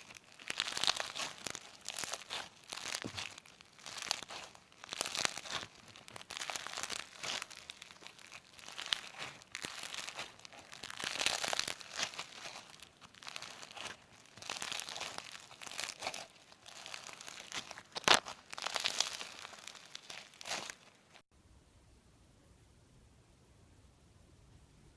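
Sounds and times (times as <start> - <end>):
slime squeezed by hand: 0.0 - 21.2.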